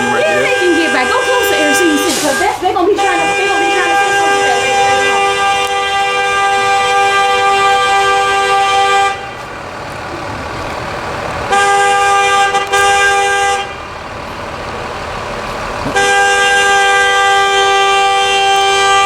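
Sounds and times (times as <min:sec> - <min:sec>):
bus horn blasts: 0:00.0 - 0:09.8, 0:11.4 - 0:14.0, 0:15.8 - 0:19.0.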